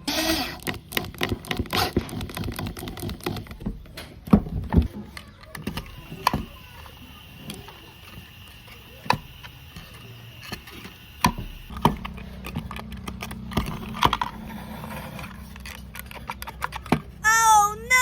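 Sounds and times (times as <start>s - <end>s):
hard objects knocking and clicking: 0.1s - 17.2s.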